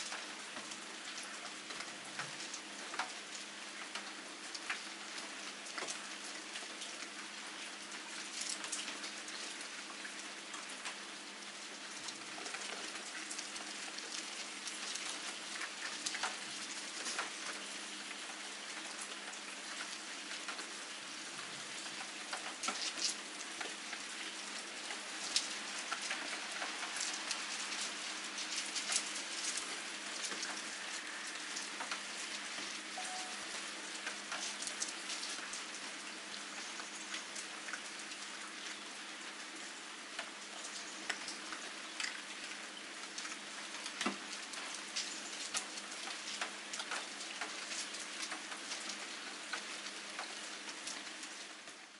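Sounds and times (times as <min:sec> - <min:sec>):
raindrops clicking on hard surfaces: 0:00.0 - 0:51.9
steady rain falling: 0:00.0 - 0:51.9.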